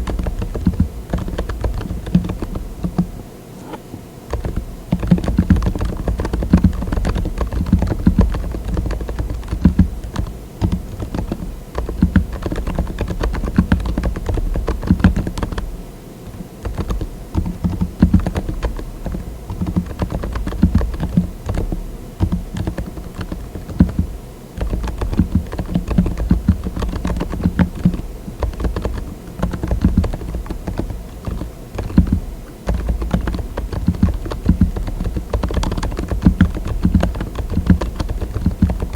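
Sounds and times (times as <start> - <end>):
soft mechanical keyboard typing: 0.0 - 38.9.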